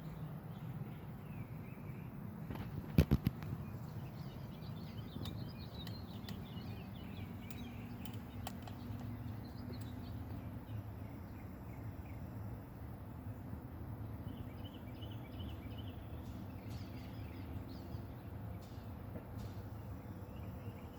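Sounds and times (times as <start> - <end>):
low background rumble: 0.0 - 18.8
small birds chirping: 0.0 - 20.9.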